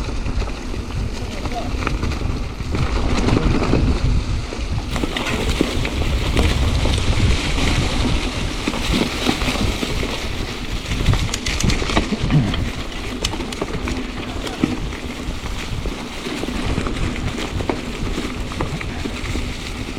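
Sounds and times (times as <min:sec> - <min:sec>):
bike tyres rolling on wet ground: 0:00.0 - 0:19.9
wind buffeting microphone: 0:00.0 - 0:19.9.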